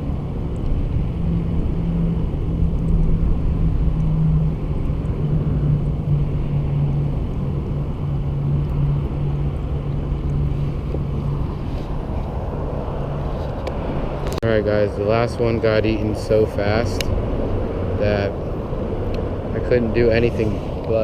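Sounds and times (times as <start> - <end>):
highway traffic hum: 0.0 - 21.0
low engine drone: 0.0 - 21.0.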